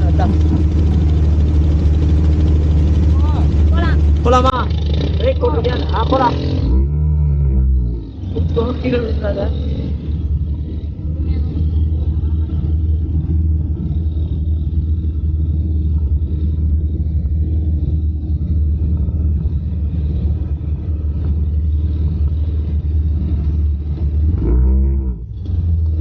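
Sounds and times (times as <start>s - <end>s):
vehicle engine low rumble: 0.0s - 26.0s.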